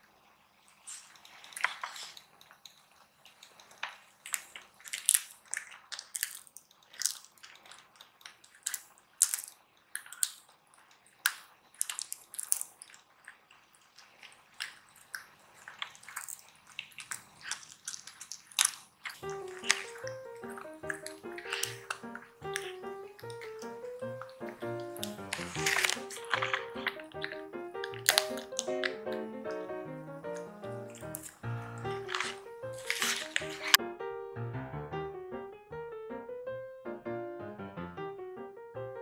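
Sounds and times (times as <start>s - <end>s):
kitten crunching hard food: 0.8s - 33.8s.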